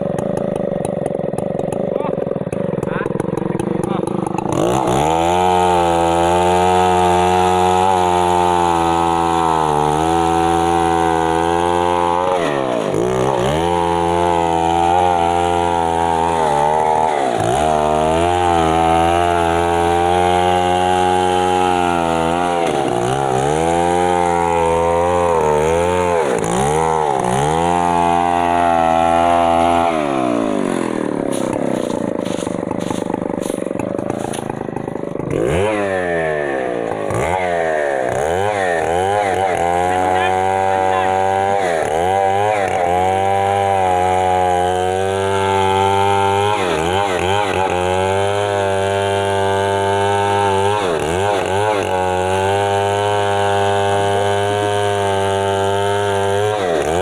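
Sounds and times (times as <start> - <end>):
chainsaw cutting wood at full throttle: 0.0 - 57.0.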